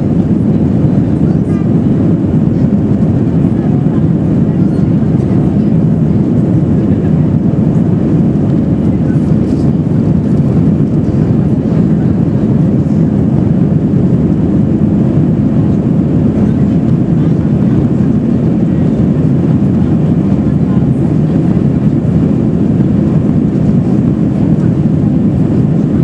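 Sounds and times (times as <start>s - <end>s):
airplane cabin engine noise: 0.0s - 26.0s.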